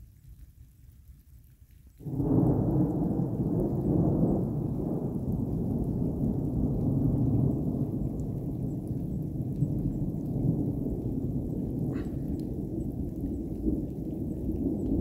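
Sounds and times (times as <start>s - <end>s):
rolling thunder: 2.0s - 15.0s.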